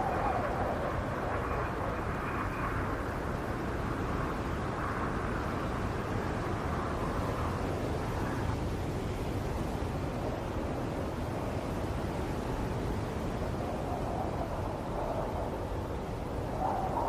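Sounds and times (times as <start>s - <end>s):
howling wind: 0.0s - 17.0s.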